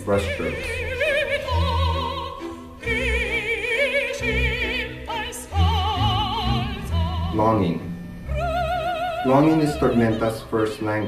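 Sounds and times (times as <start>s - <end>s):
low sustained orchestral accompaniment: 0.0s - 11.0s
operatic singing with vibrato: 0.0s - 11.0s.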